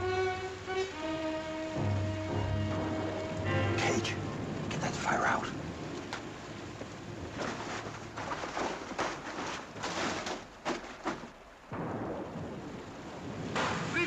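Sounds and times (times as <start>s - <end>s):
rain and wind storm: 0.0s - 14.0s.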